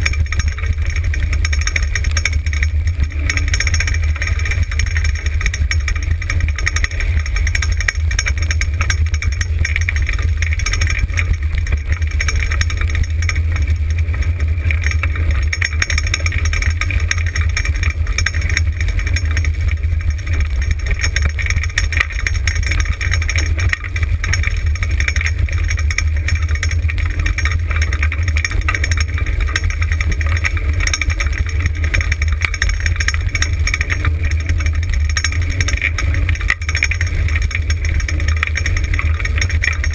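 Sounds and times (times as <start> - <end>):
wheeled rig rumbling on dirt trail: 0.0 - 39.9.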